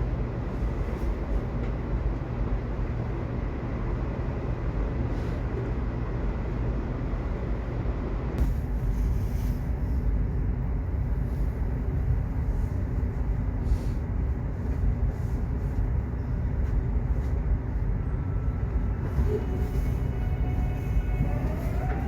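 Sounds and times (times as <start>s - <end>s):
subway train rumbling: 0.0s - 22.0s.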